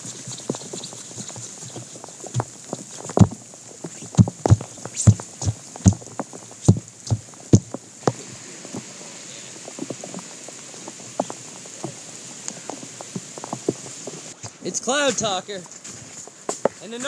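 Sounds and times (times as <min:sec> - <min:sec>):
heavy raindrops tapping: 0:00.0 - 0:17.0
steady rain hiss: 0:00.0 - 0:17.0.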